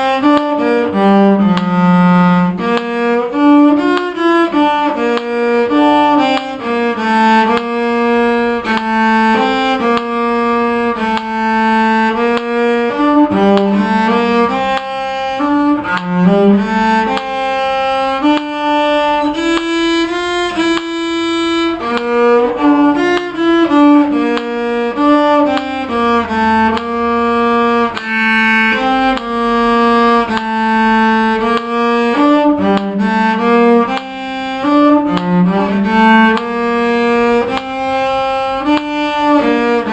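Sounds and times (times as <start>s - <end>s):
bowed string instrument melody: 0.0s - 39.9s.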